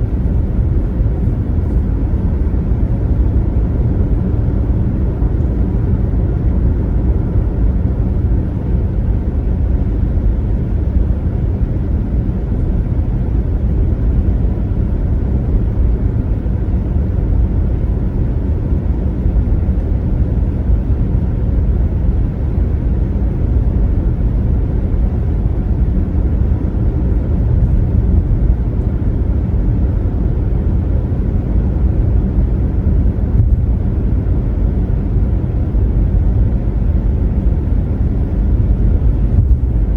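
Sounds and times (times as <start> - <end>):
car driving at highway speed: 0.0 - 39.9.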